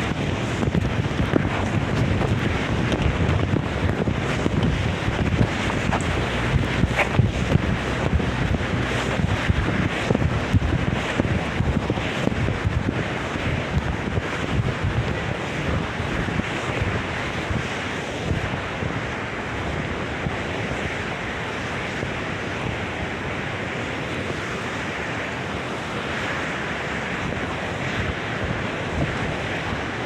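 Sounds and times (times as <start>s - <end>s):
rough surf: 0.0s - 30.0s
strong wind buffeting microphone: 0.0s - 30.0s.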